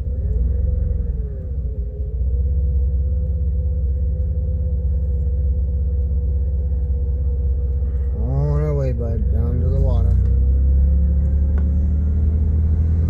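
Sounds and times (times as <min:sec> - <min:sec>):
car engine and tyres droning: 0:00.0 - 0:13.0.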